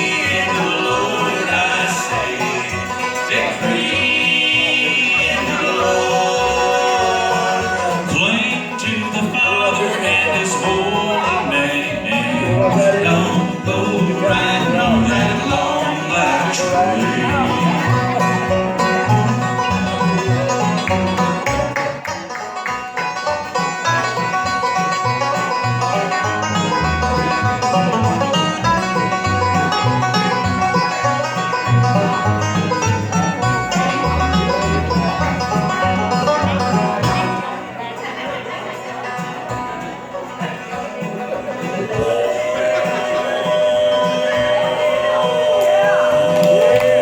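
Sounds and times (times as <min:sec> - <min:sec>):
bass line: 0:00.0 - 0:22.1, 0:23.1 - 0:37.8, 0:41.5 - 0:47.0
live band with plucked strings: 0:00.0 - 0:47.0.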